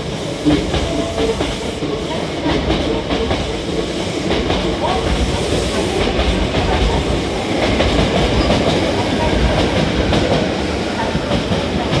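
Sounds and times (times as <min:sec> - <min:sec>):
electric train rumbling: 0:00.0 - 0:12.0
train wheels clattering: 0:00.0 - 0:12.0.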